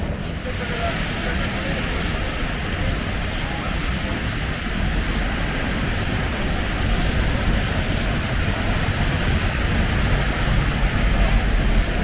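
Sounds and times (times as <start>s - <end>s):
traffic hiss: 0.0s - 12.0s
wind: 0.0s - 12.0s.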